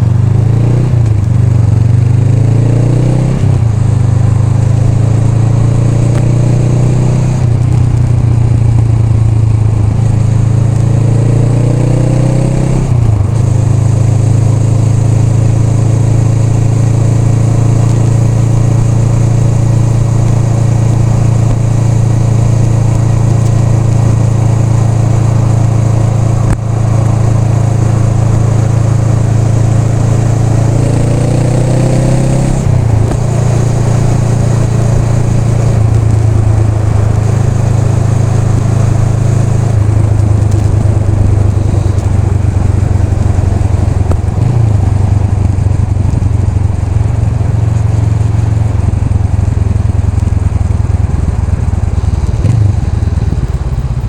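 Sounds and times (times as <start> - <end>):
motorcycle engine shifting gears: 0.0 - 54.0.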